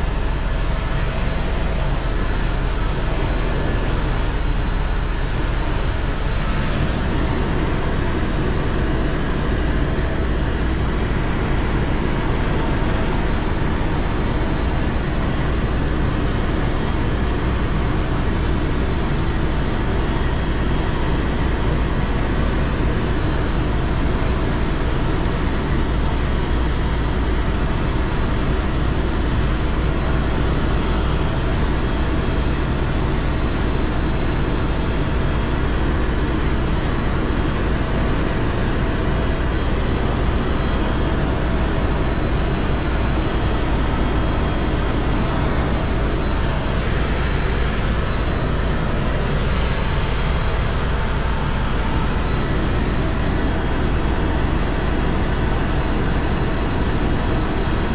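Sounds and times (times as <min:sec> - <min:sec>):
vehicle running noise: 0:00.0 - 0:57.9.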